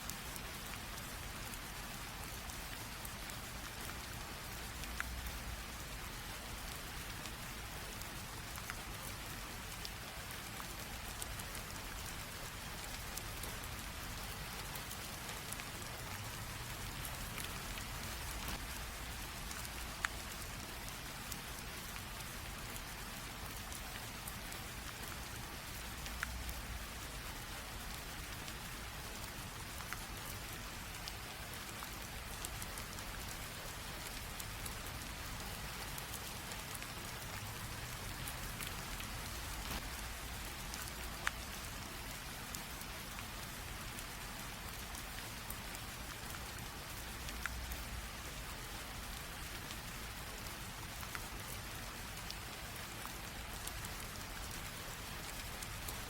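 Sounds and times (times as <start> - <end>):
light rain hiss: 0.0 - 56.0.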